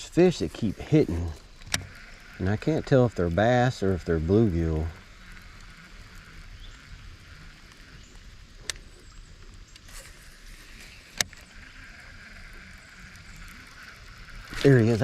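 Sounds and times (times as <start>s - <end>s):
faint water hiss: 0.0s - 15.0s.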